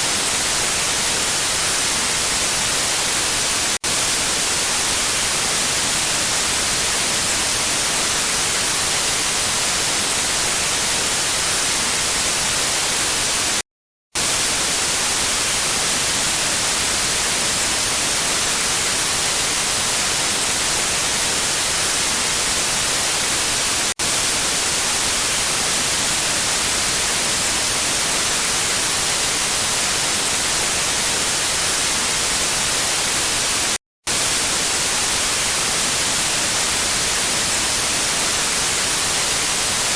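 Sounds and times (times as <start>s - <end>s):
static hiss: 0.0s - 13.6s, 14.2s - 39.9s.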